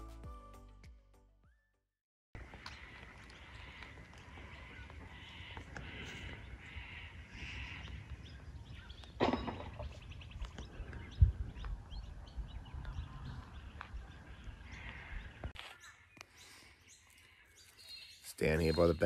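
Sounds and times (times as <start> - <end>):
birds chirping and calling: 2.4 - 19.0.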